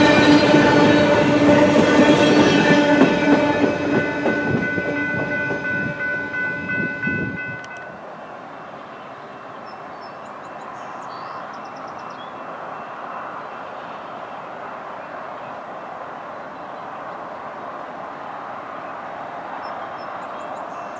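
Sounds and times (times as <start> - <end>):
train wheels rolling on rails: 0.0 - 20.9.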